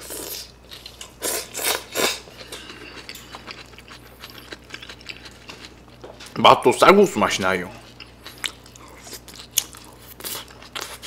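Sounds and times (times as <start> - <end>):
soft chewing: 0.7 - 6.4, 7.8 - 11.0.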